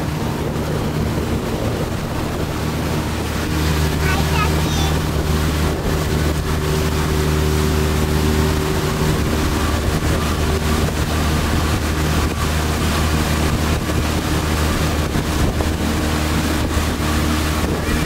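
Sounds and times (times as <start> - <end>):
boat motor running: 0.0 - 18.0
water noise: 0.0 - 18.0
wind: 0.0 - 18.0.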